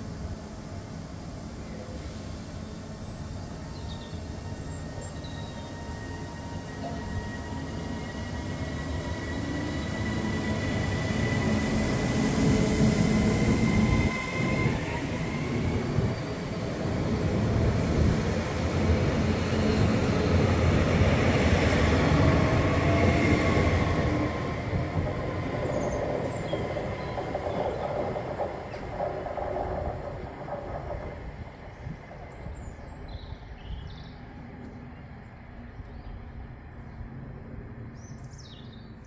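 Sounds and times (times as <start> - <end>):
train wheels rumbling on rails: 0.0 - 37.4.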